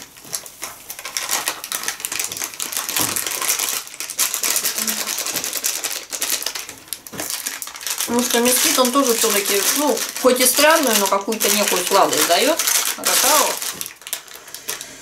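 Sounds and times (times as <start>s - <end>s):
foil pouch crinkling: 0.0s - 15.0s.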